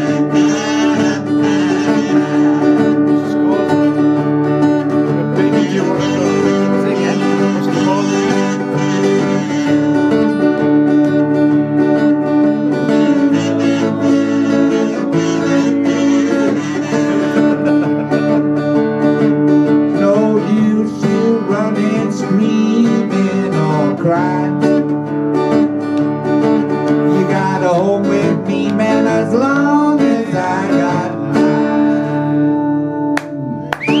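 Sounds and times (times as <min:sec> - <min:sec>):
acoustic guitars playing: 0:00.0 - 0:34.0.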